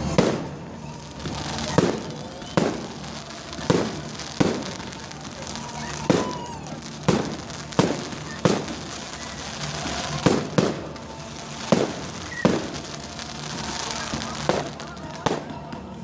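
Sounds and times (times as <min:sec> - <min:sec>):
fireworks bangs: 0:00.0 - 0:16.0
falling firework whistle: 0:00.2 - 0:14.8.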